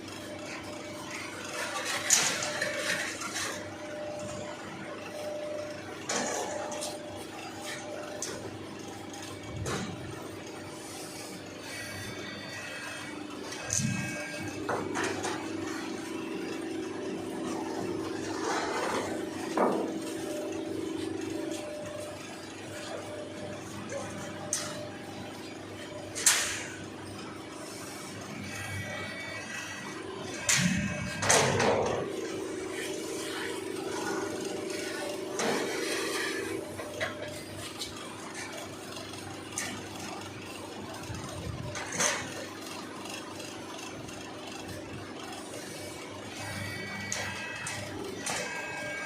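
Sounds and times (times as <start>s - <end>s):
bending machine humming: 0.0s - 49.0s.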